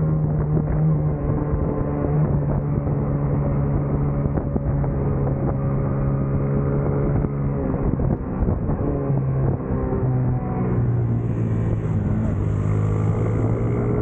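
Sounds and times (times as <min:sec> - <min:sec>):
racing motorcycle engine: 0:00.0 - 0:14.0.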